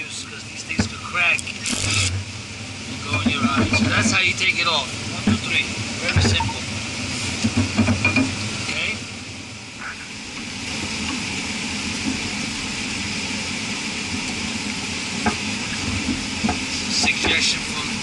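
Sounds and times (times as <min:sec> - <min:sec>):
cooling tower hiss and rumble: 0:00.0 - 0:18.0.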